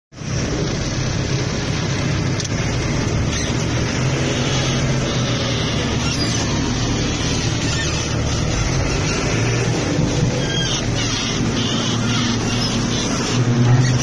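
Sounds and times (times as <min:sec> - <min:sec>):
diesel engine running: 0:00.1 - 0:14.0.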